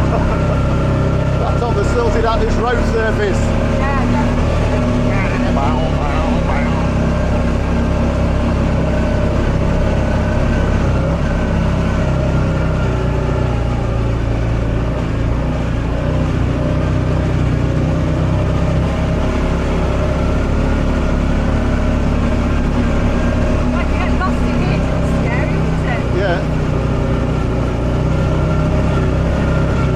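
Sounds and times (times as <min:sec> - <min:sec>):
buggy engine running: 0:00.0 - 0:29.9.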